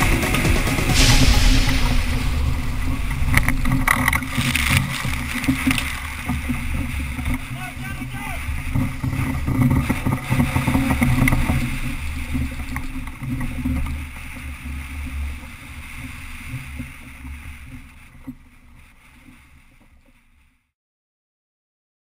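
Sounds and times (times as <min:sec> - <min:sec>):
wind buffeting microphone: 0:00.0 - 0:18.2
sea water rushing and splashing: 0:00.0 - 0:20.4.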